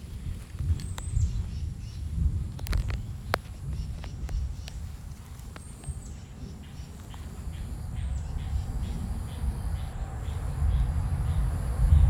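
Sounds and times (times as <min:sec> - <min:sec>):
insect chirps: 0:00.0 - 0:12.0
low rumble: 0:00.0 - 0:12.0.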